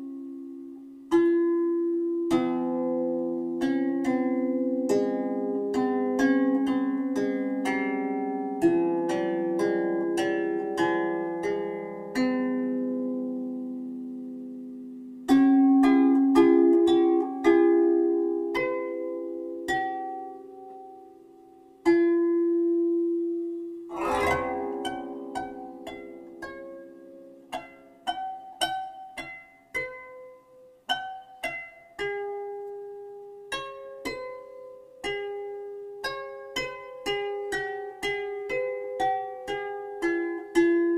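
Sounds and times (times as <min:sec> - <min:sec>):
plucked harp-like music: 0:00.0 - 0:40.9.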